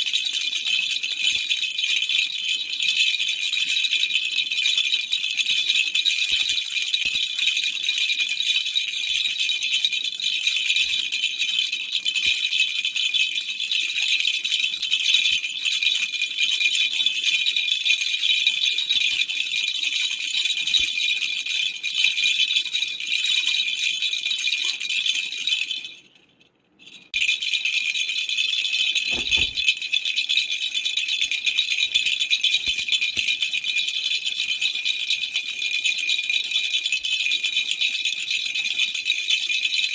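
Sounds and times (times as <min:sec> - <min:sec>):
baby's rattle toy shaking: 0:00.0 - 0:39.9.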